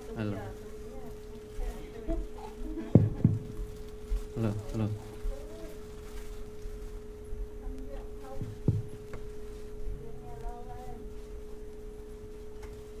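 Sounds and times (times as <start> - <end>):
faint indistinct voices: 0.0 - 12.8
steady hum: 0.0 - 13.0.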